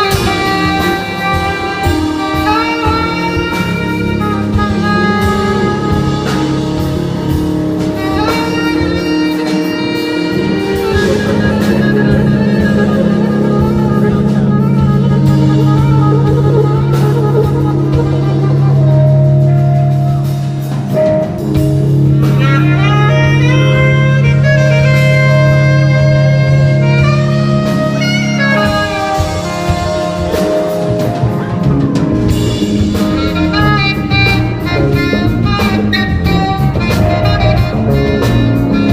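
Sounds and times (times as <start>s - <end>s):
funk band playing: 0.0s - 38.9s
horns sliding notes: 0.0s - 38.9s.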